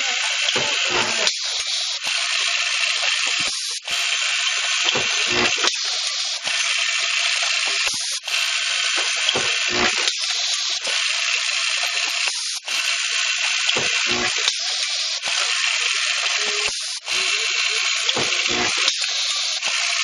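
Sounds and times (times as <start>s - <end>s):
vibratory feeder buzz: 0.0s - 20.0s
mechanical clicks: 0.4s - 20.0s.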